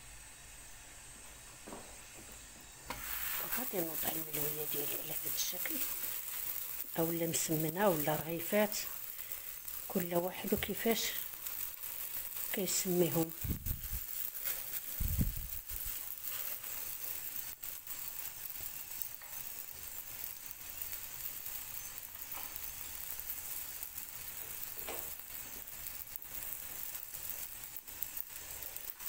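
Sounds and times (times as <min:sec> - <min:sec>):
dough sizzling in a pan: 0:00.0 - 0:29.0.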